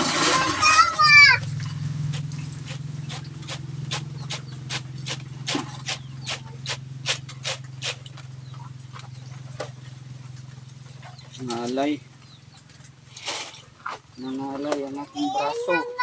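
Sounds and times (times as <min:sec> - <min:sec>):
steady low hum: 0:00.8 - 0:16.0.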